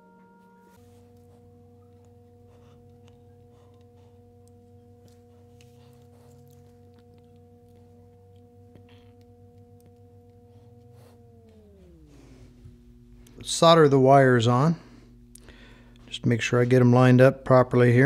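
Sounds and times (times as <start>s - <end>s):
drone chord music: 0.0s - 16.0s.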